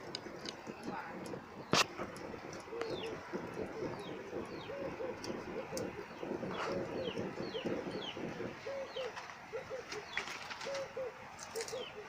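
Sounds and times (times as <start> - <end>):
doves cooing: 0.0 - 12.0
small bird chirping: 0.7 - 12.0.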